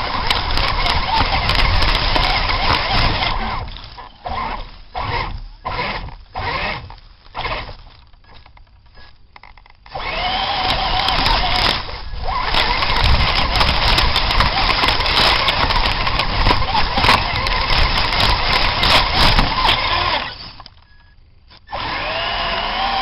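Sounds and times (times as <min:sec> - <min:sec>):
toy truck motors revving: 0:00.0 - 0:08.4, 0:09.9 - 0:20.8, 0:21.5 - 0:23.0.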